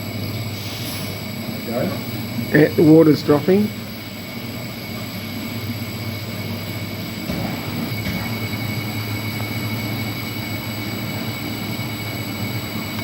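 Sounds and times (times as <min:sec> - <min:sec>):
high whine: 0:00.0 - 0:13.0
machinery hum: 0:00.0 - 0:13.0.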